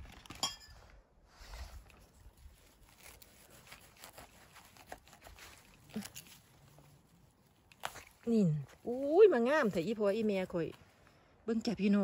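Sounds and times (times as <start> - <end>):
grass and leaves rustling: 0.0 - 12.0.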